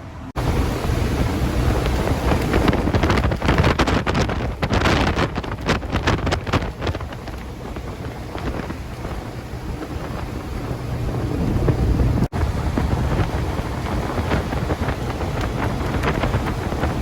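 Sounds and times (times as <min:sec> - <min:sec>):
car engine and road rumble: 0:00.0 - 0:17.0
wind buffeting microphone: 0:00.0 - 0:17.0.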